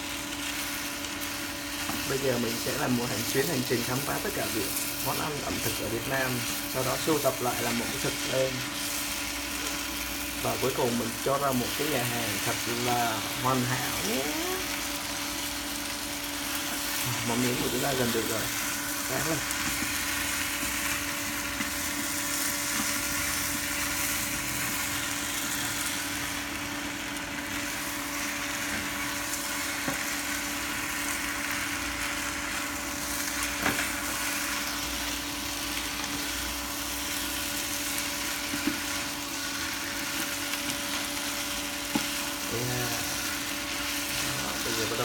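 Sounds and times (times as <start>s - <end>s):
noodles sizzling in a pan: 0.0s - 45.0s.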